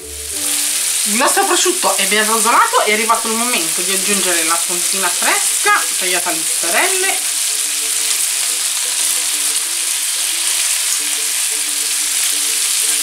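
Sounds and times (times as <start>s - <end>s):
ham and cheese sizzling in a pan: 0.0s - 13.0s.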